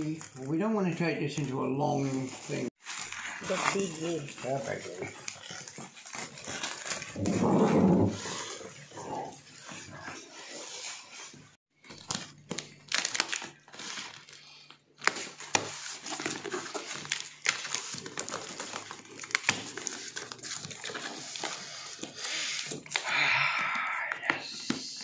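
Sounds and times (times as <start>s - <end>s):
cardboard rustling and crinkling: 0.0s - 23.0s.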